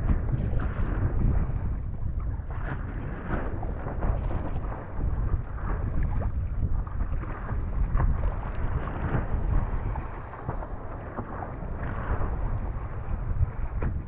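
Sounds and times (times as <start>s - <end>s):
waves slapping against board: 0.0s - 14.0s
wind rumble on microphone: 0.0s - 14.0s.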